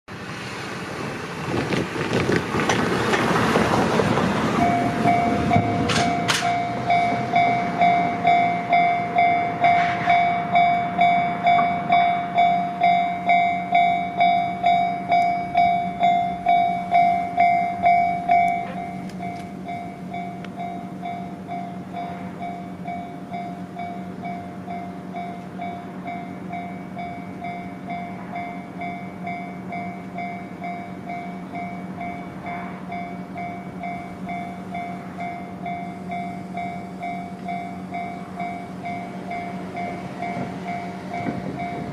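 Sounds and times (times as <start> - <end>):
train rushing past: 0.1 - 41.9
level crossing warning bell: 4.5 - 41.9.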